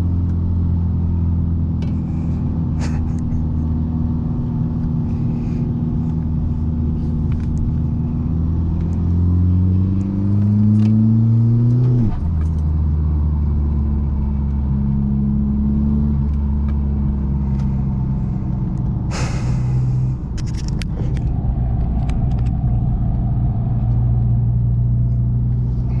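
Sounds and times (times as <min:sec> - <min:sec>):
diesel car engine revving: 0:00.0 - 0:26.0.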